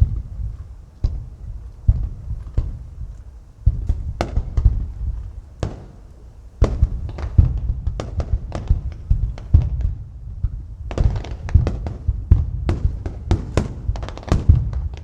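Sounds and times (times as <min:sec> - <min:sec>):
fireworks bursting with booms: 0:00.0 - 0:15.0.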